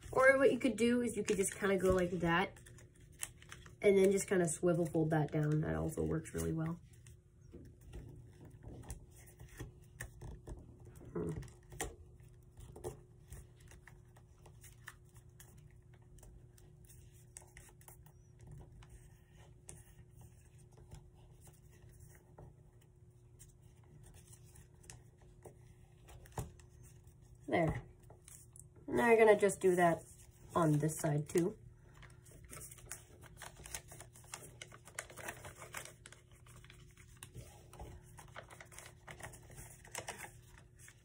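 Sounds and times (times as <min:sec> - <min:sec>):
paper rustling and crinkling: 0:00.0 - 0:28.6, 0:29.3 - 0:41.0.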